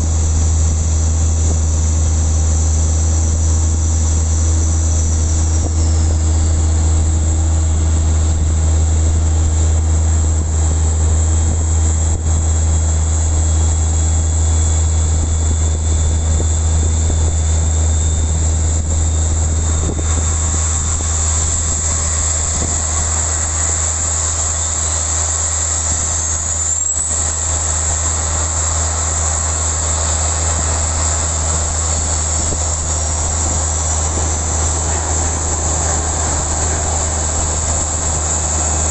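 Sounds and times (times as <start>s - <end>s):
aircraft low hum: 0.0s - 38.9s
faint high whine: 0.0s - 38.9s.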